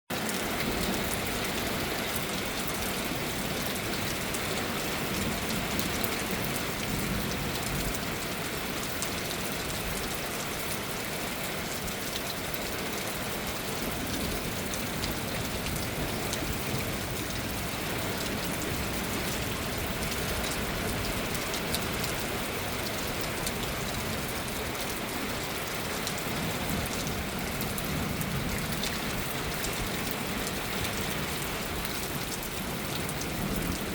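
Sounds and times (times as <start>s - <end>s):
low rumble of wind gusts: 0.2s - 33.9s.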